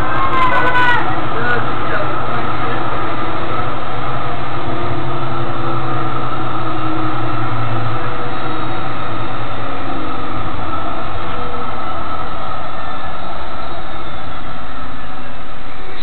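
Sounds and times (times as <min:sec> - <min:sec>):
low tram hum: 0:00.0 - 0:16.0
tram wheels rumbling on rails: 0:00.0 - 0:16.0.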